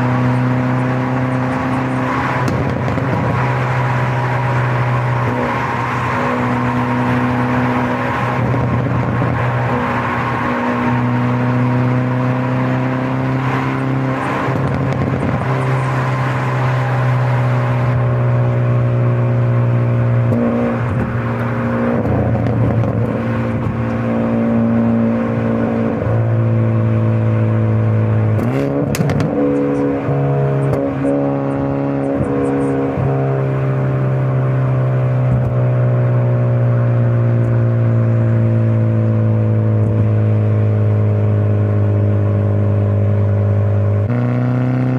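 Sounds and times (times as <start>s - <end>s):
car engine and exhaust droning: 0.0s - 44.9s.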